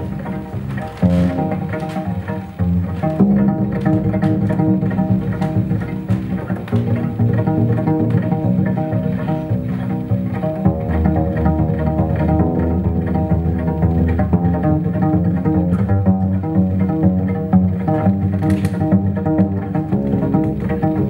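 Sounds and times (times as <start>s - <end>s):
double bass plucked: 0.0s - 21.0s.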